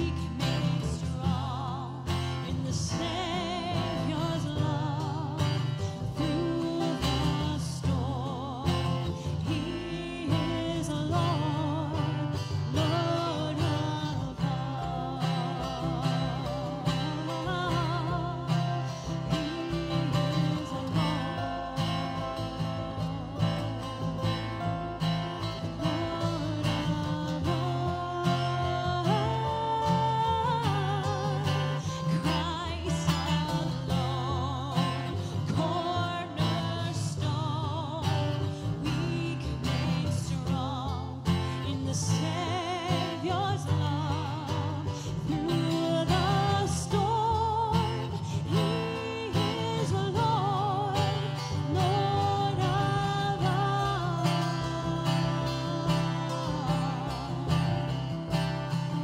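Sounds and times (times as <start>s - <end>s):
strummed acoustic guitars: 0.0s - 59.0s
upright double bass: 0.0s - 59.0s
woman singing with vibrato: 0.0s - 59.0s.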